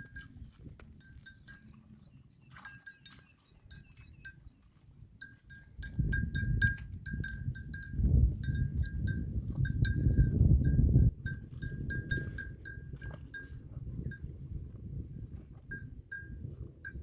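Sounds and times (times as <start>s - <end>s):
animal neck bell clinking: 0.0s - 17.0s.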